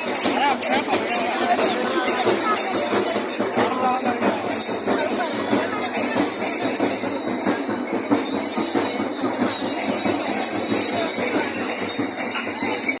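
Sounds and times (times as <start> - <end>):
bells jingling: 0.0 - 13.0.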